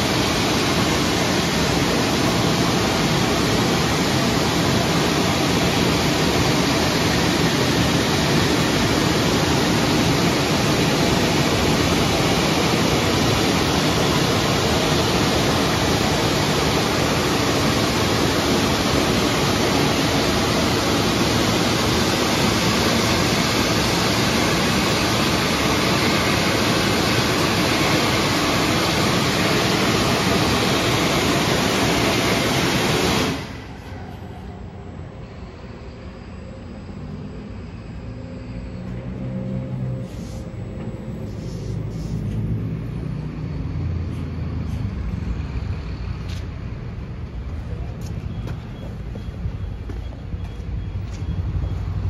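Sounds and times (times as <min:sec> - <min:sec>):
car wash dryer blowers rushing air: 0:00.0 - 0:52.0.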